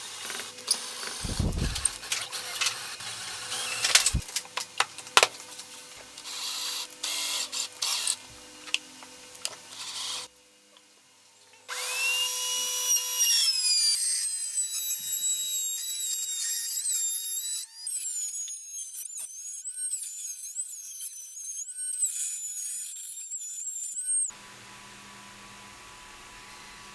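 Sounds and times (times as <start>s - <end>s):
power tool motor whining: 0.0s - 4.2s, 6.1s - 10.3s, 11.7s - 25.8s.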